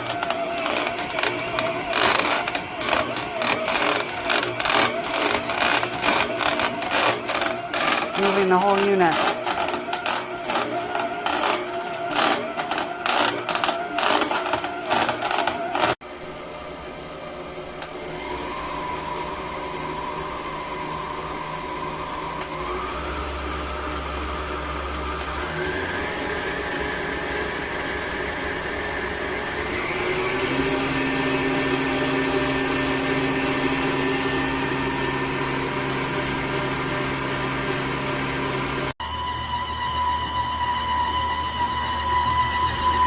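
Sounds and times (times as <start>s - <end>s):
stand mixer motor whine: 0.0s - 43.0s.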